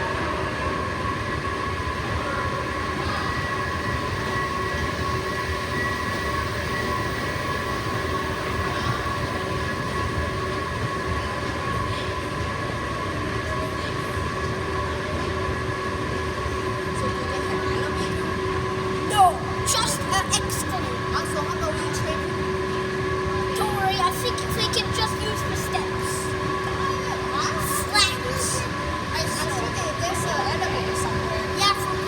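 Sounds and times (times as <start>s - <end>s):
constant whining tones: 0.0s - 32.0s
escalator machine hum: 0.0s - 32.0s.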